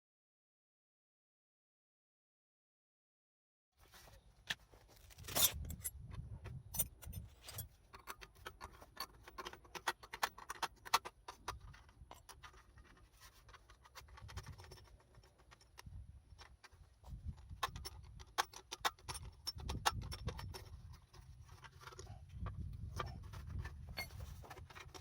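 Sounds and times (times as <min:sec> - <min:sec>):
hard objects clicking and scraping: 0:04.5 - 0:25.0.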